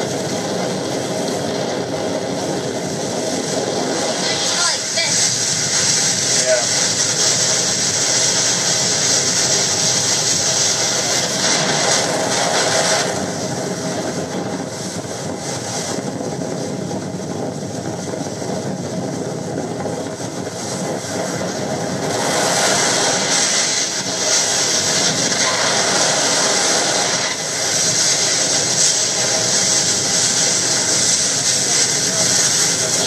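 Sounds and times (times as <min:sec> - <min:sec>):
boat engine running: 0:00.0 - 0:33.0
rush of wind and water: 0:00.0 - 0:33.0.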